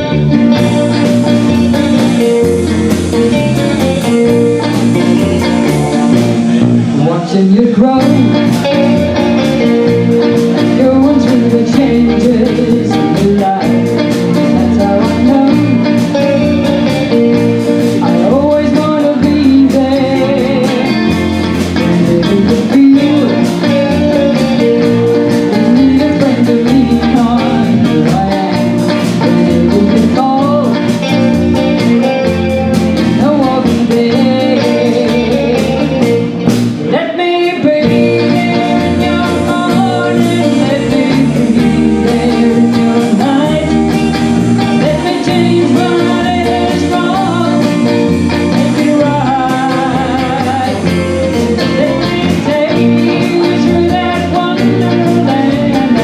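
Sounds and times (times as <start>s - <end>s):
drum kit: 0.0s - 56.0s
electric bass guitar: 0.0s - 56.0s
electric guitars: 0.0s - 56.0s.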